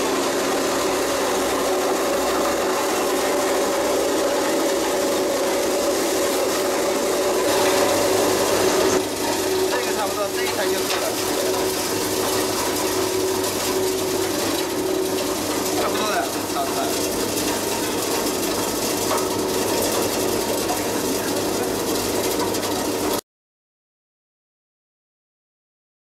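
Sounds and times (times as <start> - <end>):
chopping machine clattering: 0.0 - 23.2.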